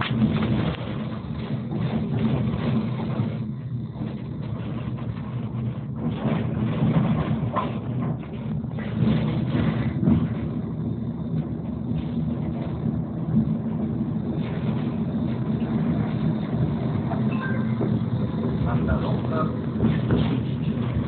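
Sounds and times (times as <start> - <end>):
tram motor hum: 0.0 - 21.0
wheels rumbling on rails: 0.0 - 21.0.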